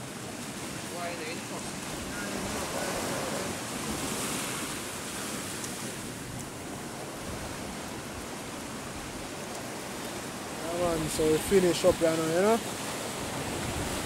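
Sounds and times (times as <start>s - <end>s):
sea waves washing: 0.0s - 14.0s
wind buffeting microphone: 1.0s - 14.0s.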